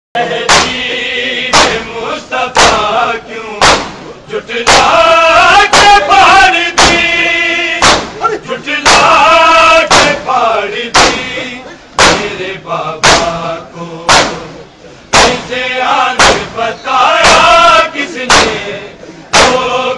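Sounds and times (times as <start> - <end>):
men chanting a lament: 0.2 - 19.9
sharp regular beats: 0.2 - 19.9.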